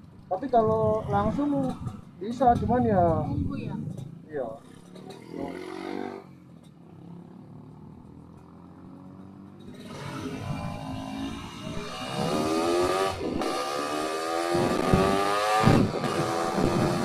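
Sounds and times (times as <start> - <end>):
two-stroke motorcycle accelerating: 0.5 - 17.0.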